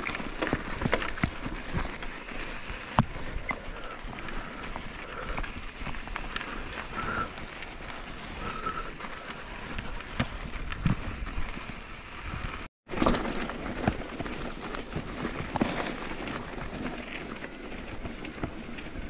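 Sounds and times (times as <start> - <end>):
bicycle tyre noise: 0.0 - 19.0
bike rattling and knocking: 0.0 - 19.0
wind noise: 0.0 - 19.0.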